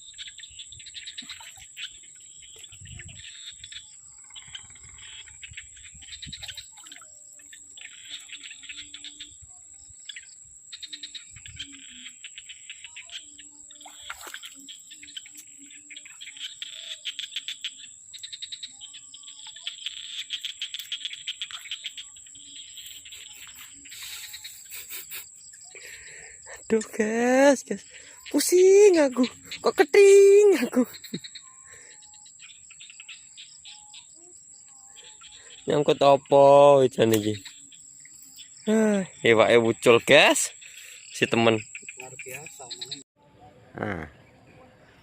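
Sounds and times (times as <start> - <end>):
high-pitched insect whine: 0.0 - 43.0
birds chirping trills: 0.0 - 45.0.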